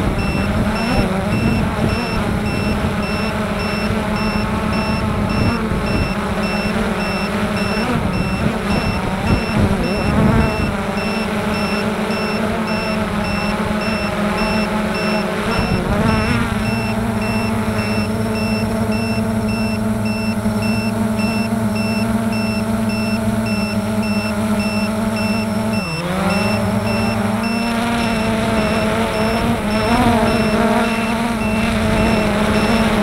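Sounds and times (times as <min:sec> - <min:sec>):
faint steady high tones: 0:00.0 - 0:33.0
model aircraft motor droning: 0:00.0 - 0:33.0.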